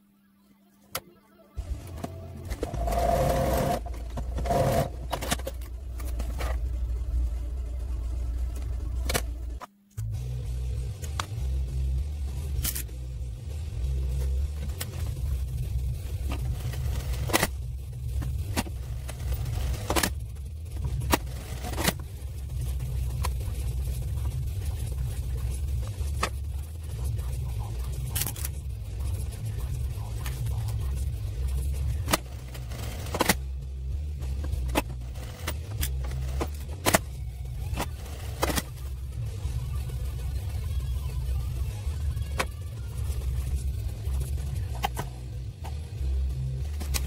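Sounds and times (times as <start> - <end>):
sewing machine low rumble: 1.6 - 47.0.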